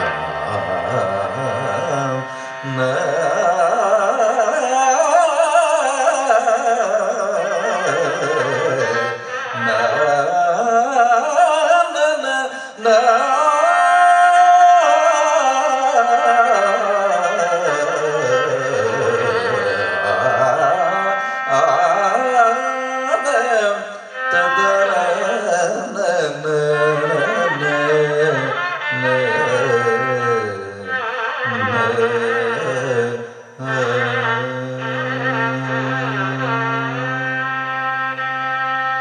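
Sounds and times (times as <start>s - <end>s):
man singing with sliding ornaments: 0.0s - 37.4s
violin: 0.0s - 39.0s.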